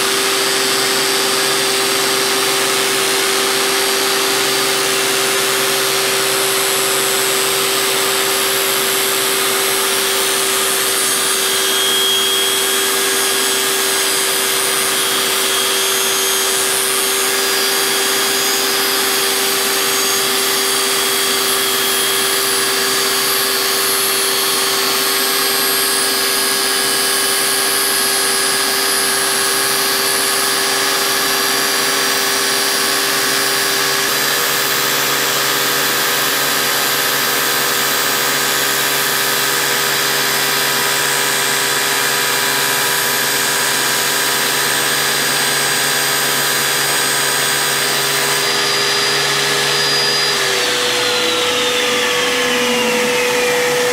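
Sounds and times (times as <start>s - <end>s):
saw blades hissing: 0.0s - 32.2s, 41.0s - 53.9s
table saw motor hum: 0.0s - 53.9s.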